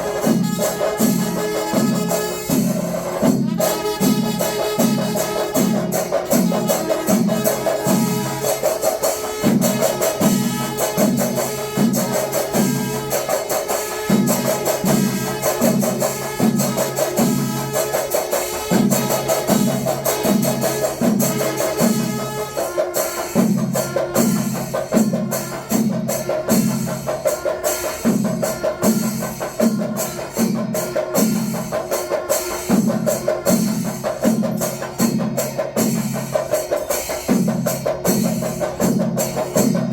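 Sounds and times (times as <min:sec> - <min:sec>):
drums struck rhythmically: 0:00.0 - 0:39.9.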